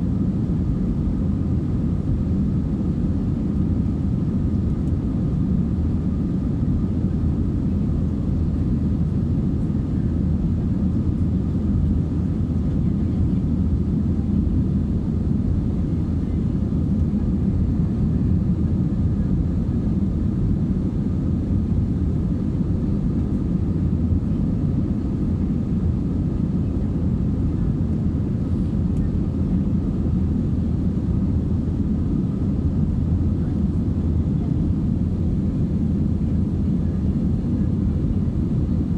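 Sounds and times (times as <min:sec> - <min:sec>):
aircraft cabin engine drone: 0:00.0 - 0:38.9.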